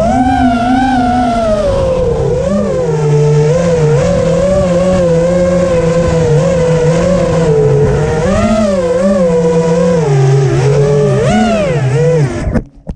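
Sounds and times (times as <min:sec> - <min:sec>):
quadcopter motors whining: 0:00.0 - 0:12.7.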